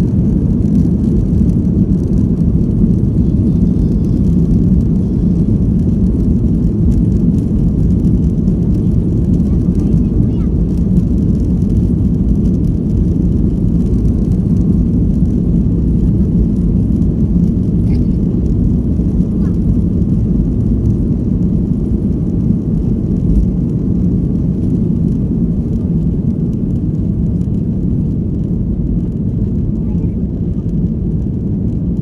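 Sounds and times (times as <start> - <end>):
aircraft engine rumble in cabin: 0.0 - 32.0.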